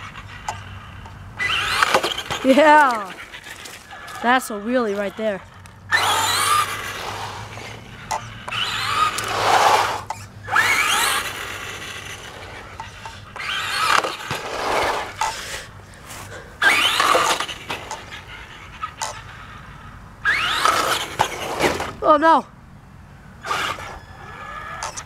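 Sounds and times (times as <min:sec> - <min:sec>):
electric motor whining: 0:00.0 - 0:22.1, 0:23.4 - 0:25.0
tyres rushing on concrete: 0:00.0 - 0:22.5.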